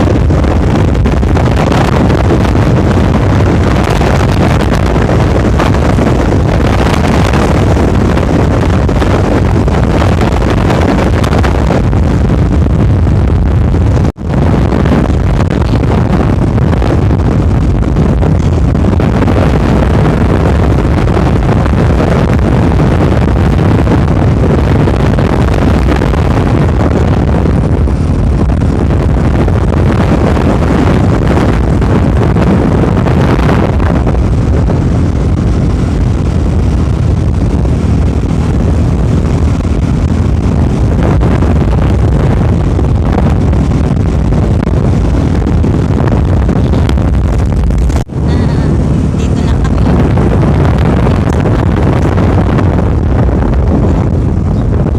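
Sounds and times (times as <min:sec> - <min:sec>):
road noise: 0:00.0 - 0:54.9
vehicle engine: 0:00.0 - 0:54.9
wind on microphone: 0:00.0 - 0:54.9.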